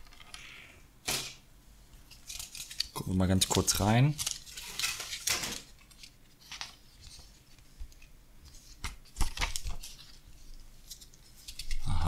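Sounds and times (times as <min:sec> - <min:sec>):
paper pages rustling: 0:02.1 - 0:11.9.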